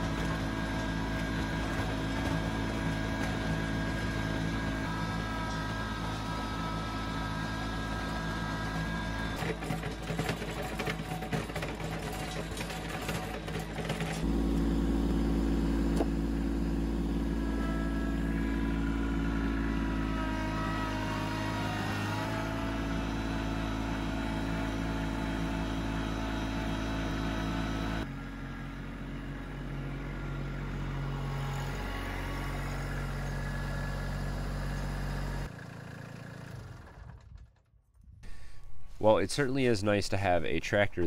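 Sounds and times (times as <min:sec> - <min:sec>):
tractor diesel engine running: 0:00.0 - 0:37.5.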